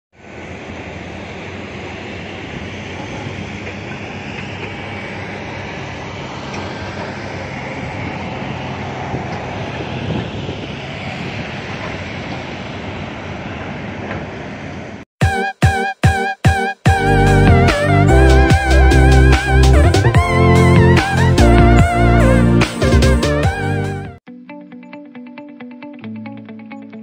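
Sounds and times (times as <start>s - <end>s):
diesel engines droning: 0.2s - 15.1s, 16.9s - 24.2s.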